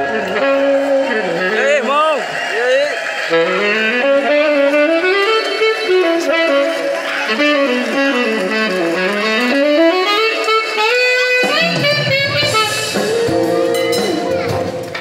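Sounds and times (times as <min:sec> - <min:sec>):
tenor saxophone run: 0:00.0 - 0:14.2
deeper backing part: 0:00.0 - 0:15.0.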